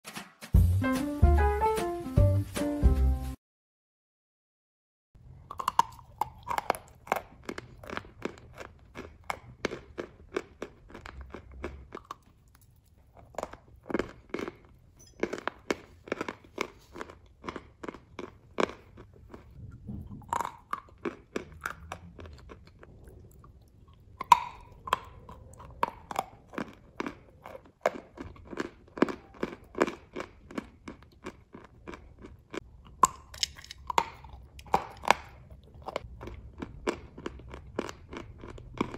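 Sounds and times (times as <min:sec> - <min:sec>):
crunching and chewing chalk: 0:05.2 - 0:38.9.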